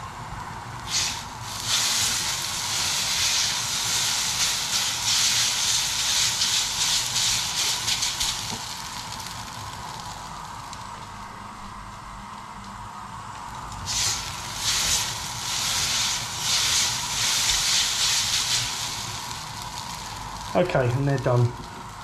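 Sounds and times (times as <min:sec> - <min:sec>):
noodles sizzling in a pan: 0:00.8 - 0:22.0.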